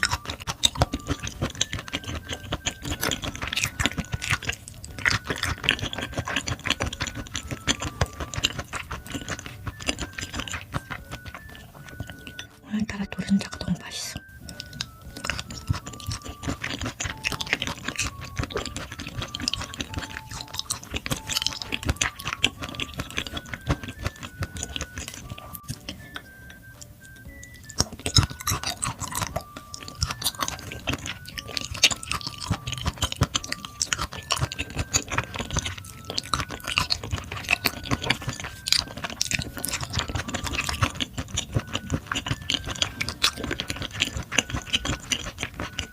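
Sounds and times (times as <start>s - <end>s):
chewing and mouth sounds: 0.0s - 45.9s
simple background melody: 0.0s - 45.9s.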